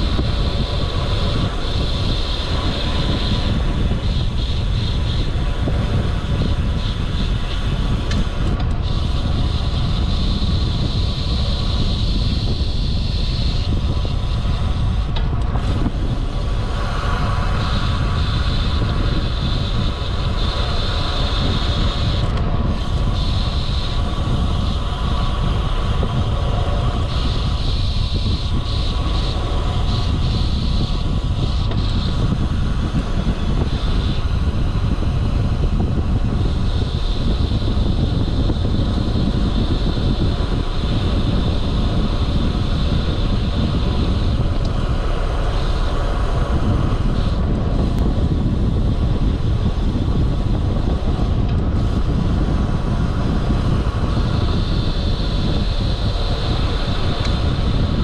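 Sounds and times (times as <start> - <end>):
bicycle tyre road noise: 0.0 - 58.0
wind buffeting microphone: 0.0 - 58.0.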